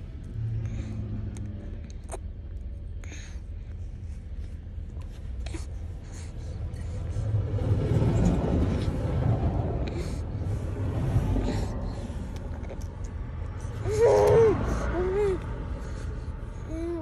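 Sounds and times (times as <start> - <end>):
vehicle rumble from inside cabin: 0.0 - 17.0.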